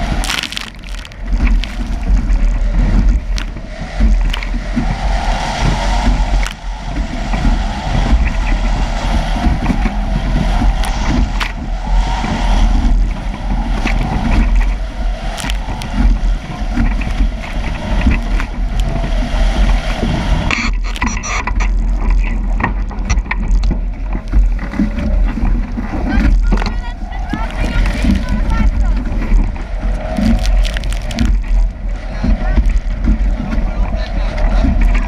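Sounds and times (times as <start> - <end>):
water rushing and splashing: 0.0 - 35.0
wind buffeting microphone: 0.0 - 35.0.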